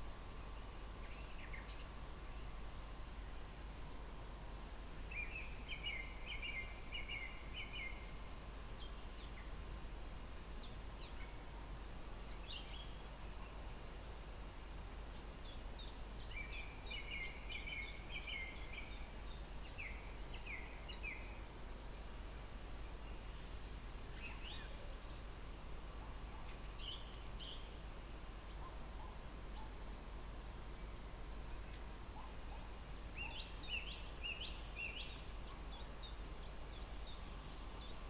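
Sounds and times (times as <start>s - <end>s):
songbirds singing: 0.4s - 2.9s, 4.3s - 9.7s, 10.4s - 14.2s, 14.9s - 22.0s, 22.8s - 38.0s.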